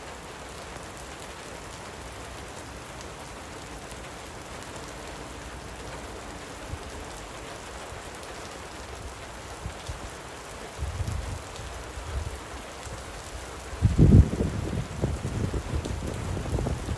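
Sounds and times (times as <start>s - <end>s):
light rain falling: 0.0s - 16.9s.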